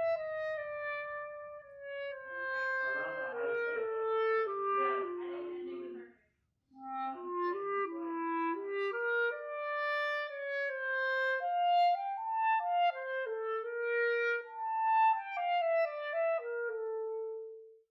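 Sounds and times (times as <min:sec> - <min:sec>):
solo clarinet melody: 0:00.0 - 0:06.1, 0:06.8 - 0:17.8.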